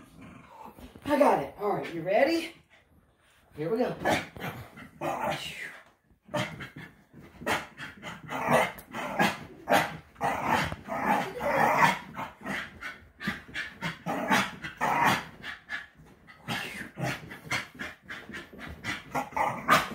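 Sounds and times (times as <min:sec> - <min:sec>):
puppy growling: 0:00.0 - 0:01.1, 0:04.1 - 0:19.9.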